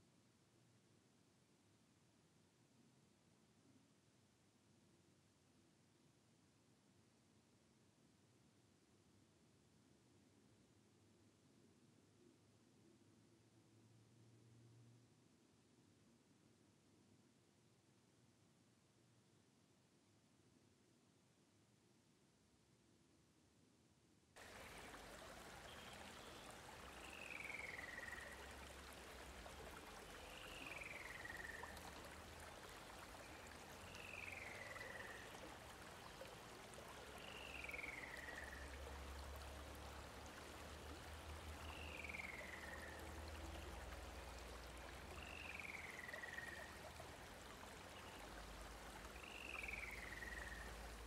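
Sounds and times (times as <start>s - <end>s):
outdoor ambience hiss: 0.0s - 51.0s.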